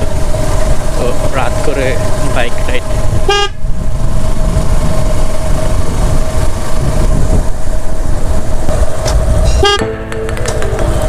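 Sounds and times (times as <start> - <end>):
wind buffeting microphone: 0.0 - 9.8
motorcycle engine while riding: 0.0 - 11.0.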